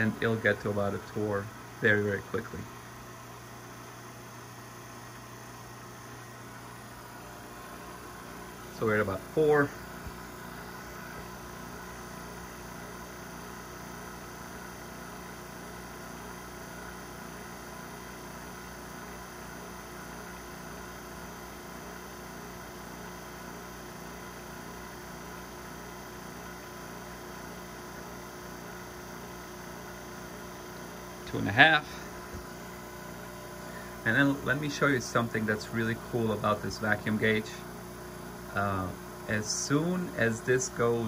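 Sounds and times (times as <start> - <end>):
vacuum pump humming: 0.0 - 41.0.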